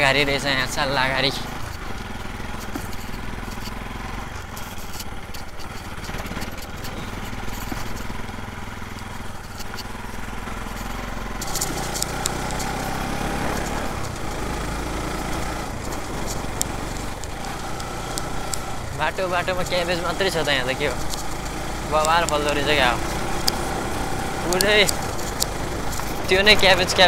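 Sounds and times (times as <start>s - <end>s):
motorcycle engine running: 0.0s - 27.0s
rough road rush: 0.0s - 27.0s.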